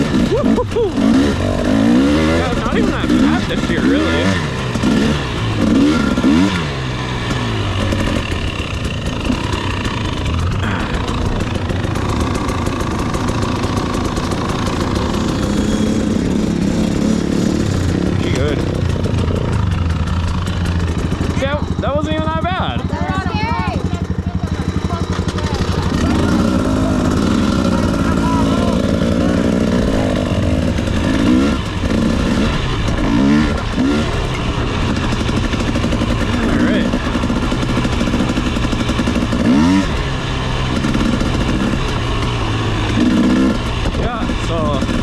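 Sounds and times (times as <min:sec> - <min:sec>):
dirt bike engine running: 0:00.0 - 0:45.0.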